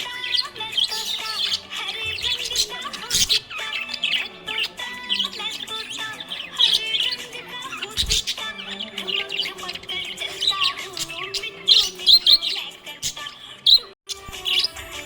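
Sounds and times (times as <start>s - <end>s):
budgerigars chirping: 0.0s - 14.9s.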